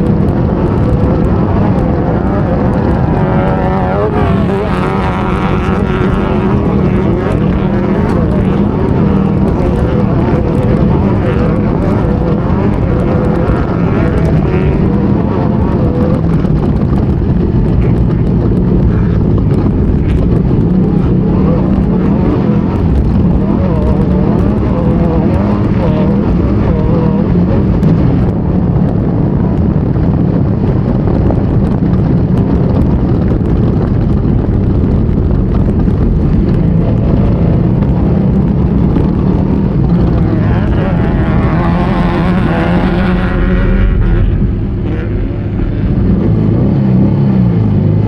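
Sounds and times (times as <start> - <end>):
driving noise: 0.0 - 48.0
race vehicle engine running hard: 0.0 - 48.0.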